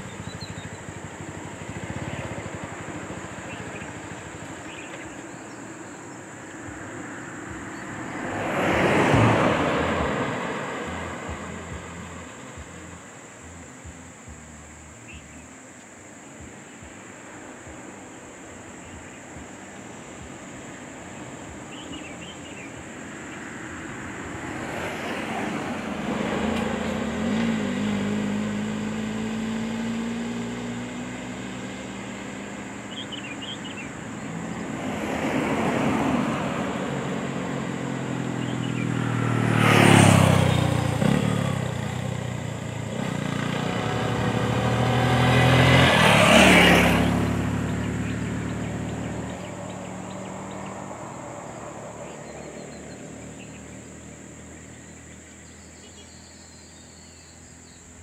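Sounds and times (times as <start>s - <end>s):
motorcycle driving past: 0.0s - 15.5s, 19.9s - 57.8s
cars driving past: 0.0s - 58.0s.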